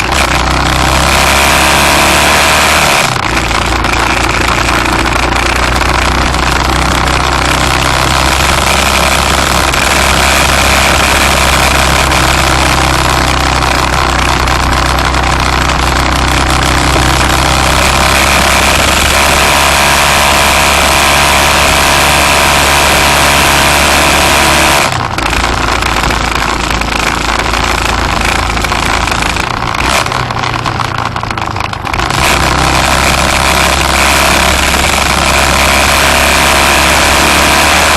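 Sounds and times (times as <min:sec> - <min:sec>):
vehicle engine and road noise: 0:00.0 - 0:37.9.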